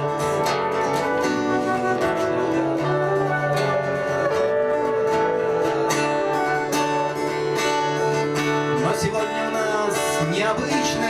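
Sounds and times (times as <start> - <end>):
held melodic notes: 0.0 - 11.0
strummed acoustic guitar: 0.0 - 11.0.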